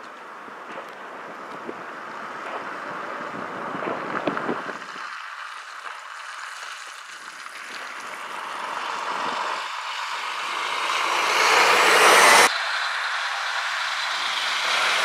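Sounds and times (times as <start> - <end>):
diesel truck driving slowly: 0.0 - 15.0.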